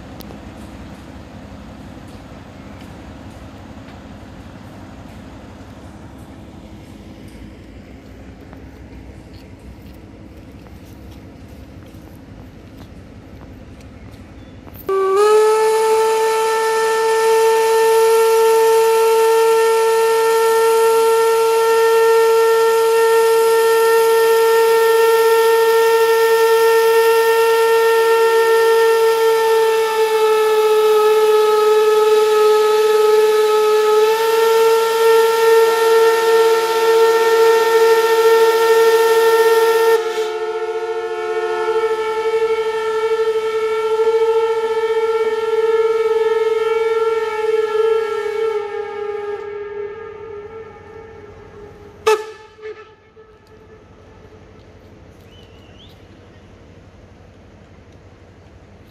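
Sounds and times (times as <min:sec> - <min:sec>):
steam locomotive whistles: 0:00.0 - 0:56.8.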